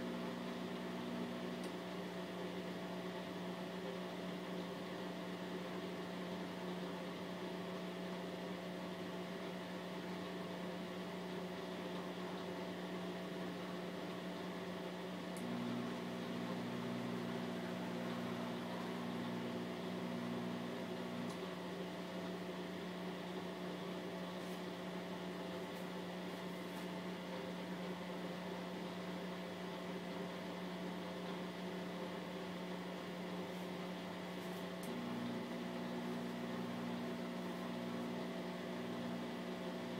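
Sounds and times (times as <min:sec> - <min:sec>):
washing machine spinning hum: 0:00.0 - 0:39.9.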